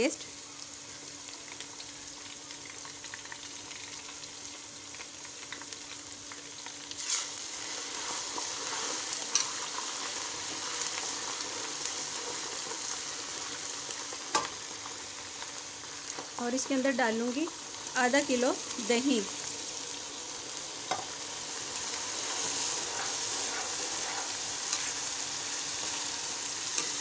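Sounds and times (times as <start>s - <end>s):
onions sizzling in hot fat: 0.0s - 27.0s.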